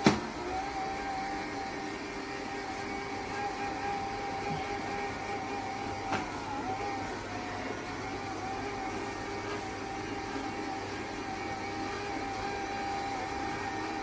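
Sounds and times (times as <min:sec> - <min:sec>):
robot vacuum cleaner humming: 0:00.0 - 0:14.0.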